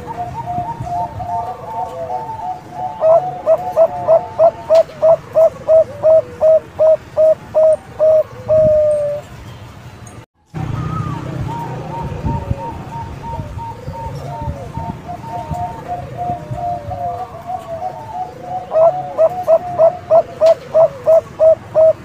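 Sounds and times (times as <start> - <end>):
dove cooing: 0.0 - 9.3, 10.7 - 22.0.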